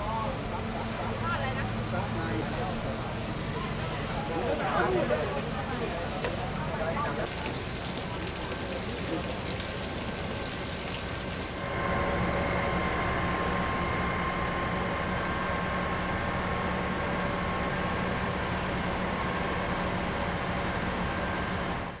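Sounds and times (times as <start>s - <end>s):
noisy background wash: 0.0s - 21.9s
steady mechanical hum: 0.0s - 22.0s.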